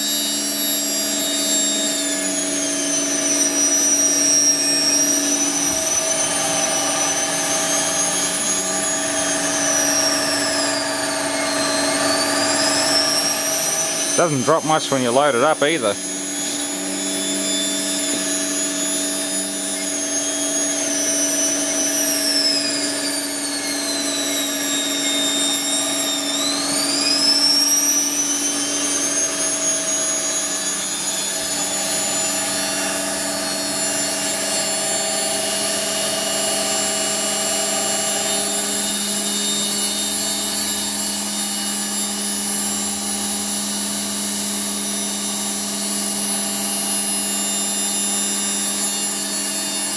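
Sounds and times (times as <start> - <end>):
generator hum: 0.0 - 48.7
electric motor whine: 0.0 - 49.9.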